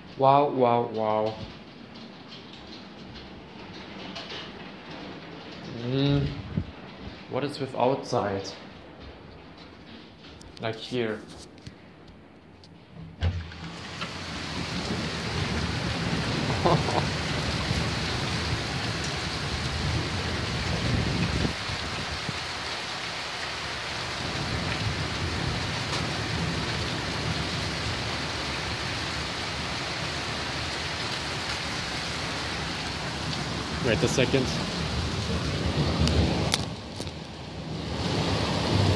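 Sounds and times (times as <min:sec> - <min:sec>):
heavy rain pouring: 0:00.0 - 0:10.5, 0:13.2 - 0:38.9
low thunder rumbling: 0:01.2 - 0:10.5, 0:13.1 - 0:38.9.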